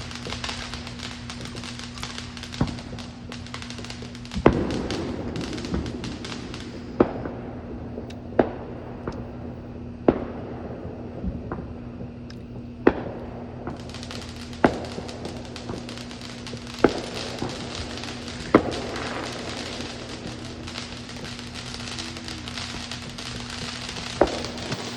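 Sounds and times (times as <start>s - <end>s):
fireworks crackling: 0.0s - 9.2s, 10.1s - 24.9s
fireworks bangs: 0.0s - 24.9s.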